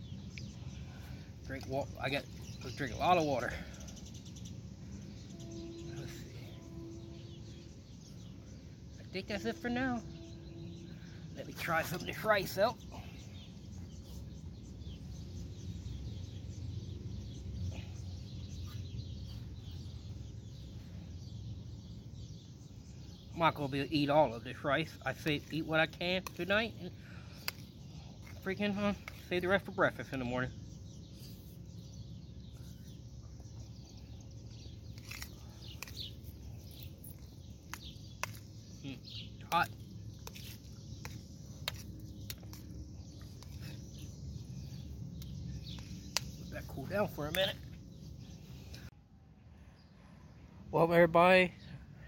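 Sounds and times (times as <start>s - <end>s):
faint bird chirps: 0.0s - 25.7s, 26.7s - 50.6s.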